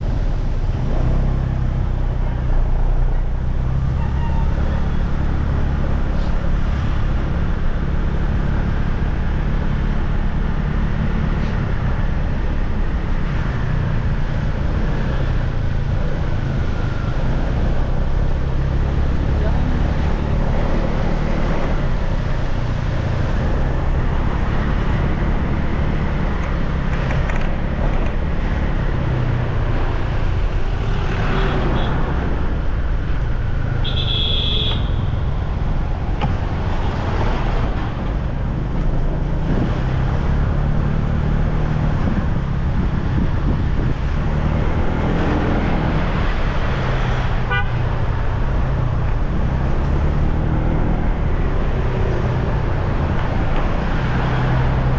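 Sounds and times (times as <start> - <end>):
traffic engines and road noise: 0.0 - 54.9.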